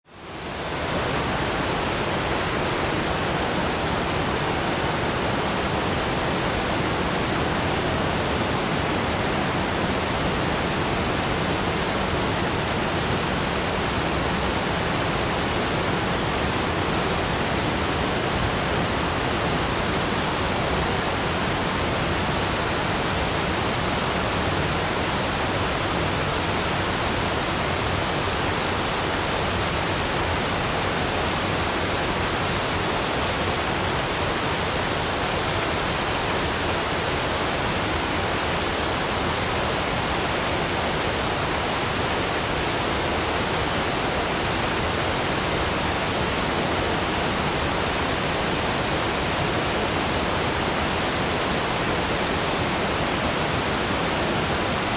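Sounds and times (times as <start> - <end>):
waterfall rushing: 0.1 - 54.9.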